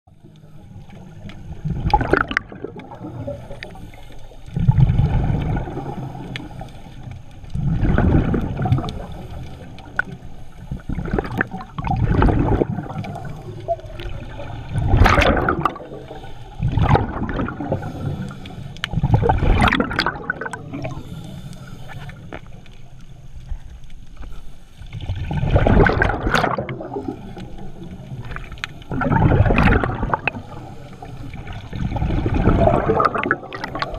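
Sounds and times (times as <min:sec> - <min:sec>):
underwater bubbling and rushing: 0:00.1 - 0:33.9.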